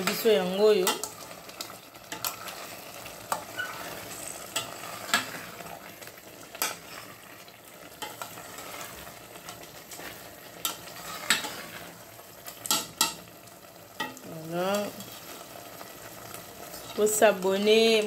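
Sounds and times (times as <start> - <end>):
sauce sizzling: 0.0 - 18.0.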